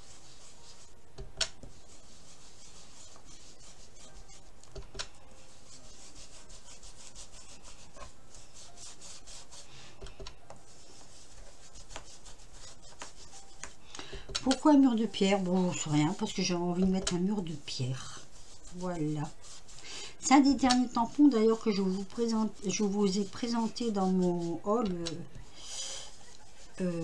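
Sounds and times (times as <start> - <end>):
ink tool scrubbing through stencil: 0.0 - 10.0, 10.6 - 13.8, 14.4 - 27.0.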